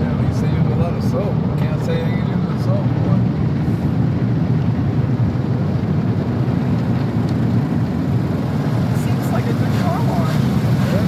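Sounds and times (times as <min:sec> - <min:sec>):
car wash spray and machinery: 0:00.0 - 0:11.0.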